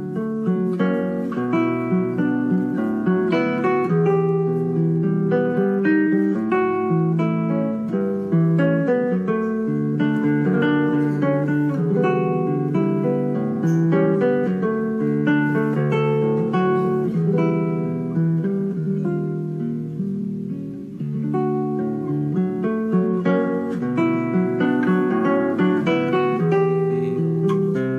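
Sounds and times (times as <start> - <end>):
acoustic guitar music: 0.0 - 27.9.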